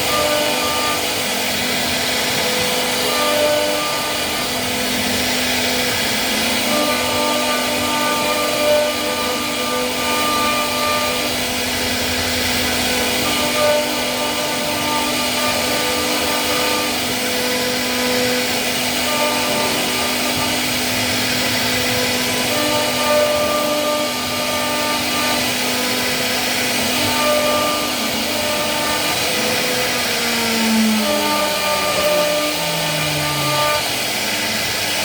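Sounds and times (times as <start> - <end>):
router cutting wood: 0.0 - 35.0
wood router motor whine: 0.0 - 35.0.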